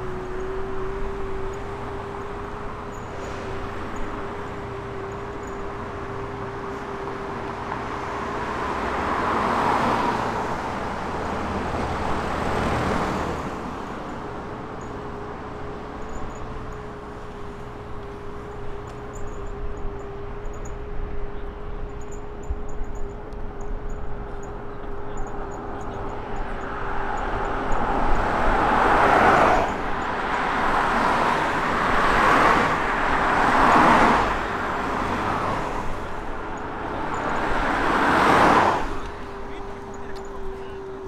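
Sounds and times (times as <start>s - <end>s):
cars passing: 0.0s - 41.0s.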